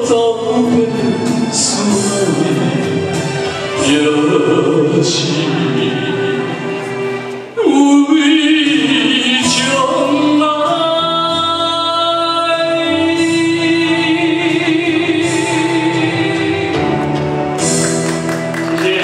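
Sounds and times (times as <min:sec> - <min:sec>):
man singing into a microphone: 0:00.0 - 0:17.2
karaoke backing track: 0:00.0 - 0:19.0.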